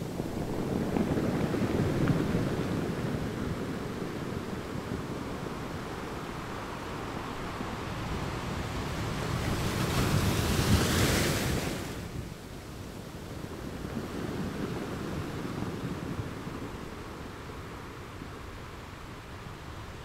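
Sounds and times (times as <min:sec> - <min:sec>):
ocean waves breaking on beach: 0:00.0 - 0:20.0.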